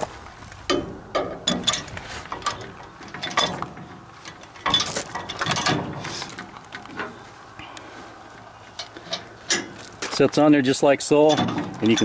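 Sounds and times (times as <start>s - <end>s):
metal clanks and scraping: 0.6s - 7.4s, 8.3s - 10.3s, 11.1s - 12.0s.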